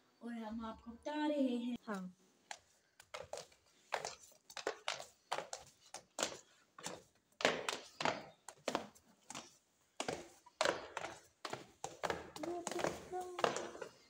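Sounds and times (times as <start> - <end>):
footsteps on stone stairs: 2.4 - 14.0.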